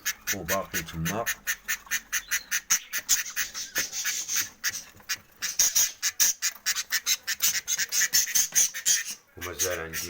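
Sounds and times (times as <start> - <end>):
budgerigars chirping: 0.0 - 10.0.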